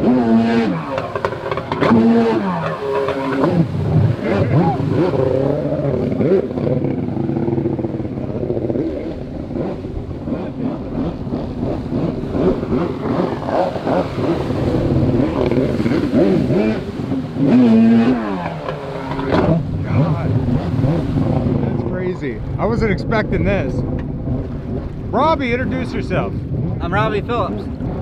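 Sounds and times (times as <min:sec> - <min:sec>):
jet ski engine revving: 0:00.0 - 0:28.0.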